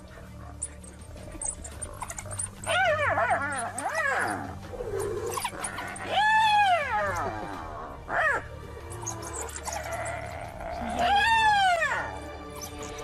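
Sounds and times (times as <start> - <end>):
wild dogs twittering and squealing: 0.0 - 13.0.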